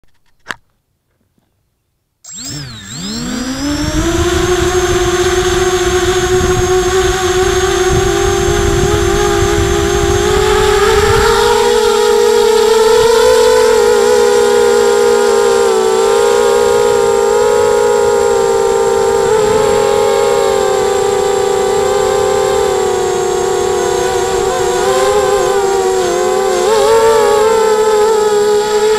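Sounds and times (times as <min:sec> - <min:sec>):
drone motors and propellers whining: 0:02.2 - 0:28.9.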